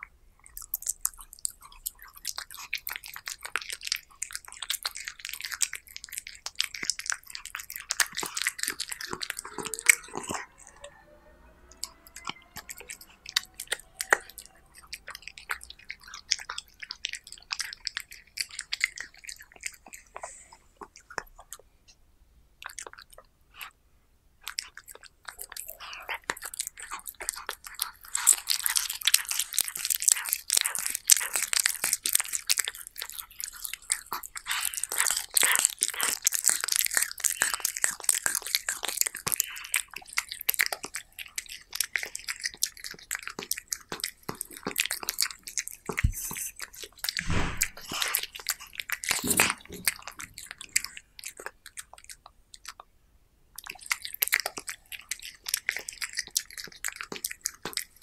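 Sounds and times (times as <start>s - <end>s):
cat chewing meat: 0.0s - 10.8s, 11.6s - 21.8s, 22.6s - 23.8s, 24.4s - 58.0s.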